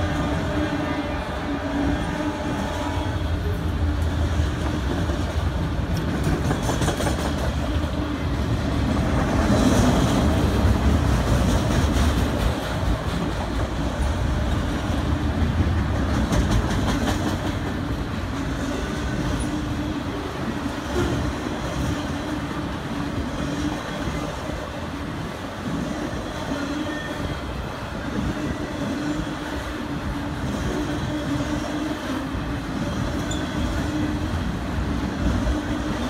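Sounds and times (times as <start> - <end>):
freight train wheels rumbling on rails: 0.0 - 36.0
train clattering and clicks: 0.0 - 36.0.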